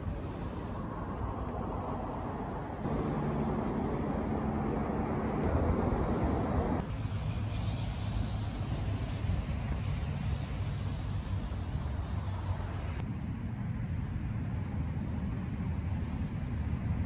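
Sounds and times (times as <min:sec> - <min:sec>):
low hum: 0:00.0 - 0:17.0
low outdoor rumble: 0:00.0 - 0:17.0.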